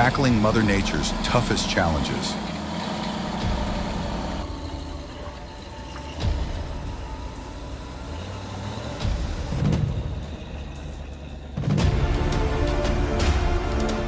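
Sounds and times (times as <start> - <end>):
off-road vehicle engine running: 0.0 - 14.0.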